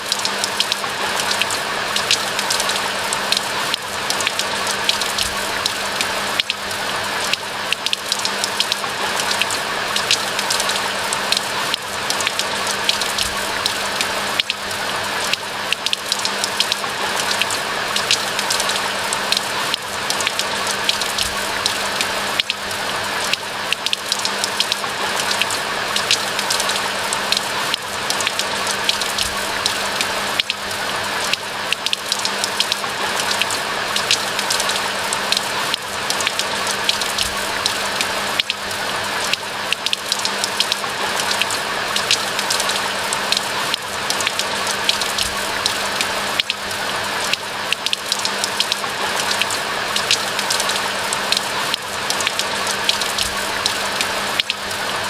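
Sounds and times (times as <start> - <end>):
rain drop ticks: 0.0 - 55.0.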